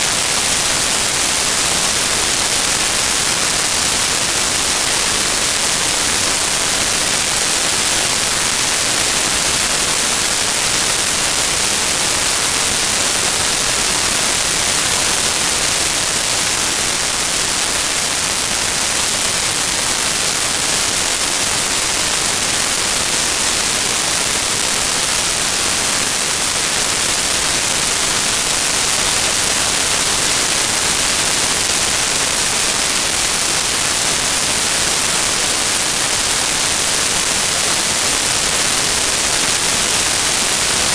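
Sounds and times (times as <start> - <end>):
rushing air hiss on microphone: 0.0 - 40.9.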